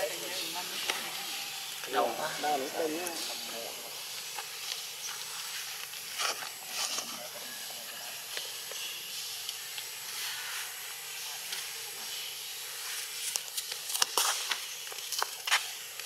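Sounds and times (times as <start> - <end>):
high outdoor hiss: 0.0 - 16.0.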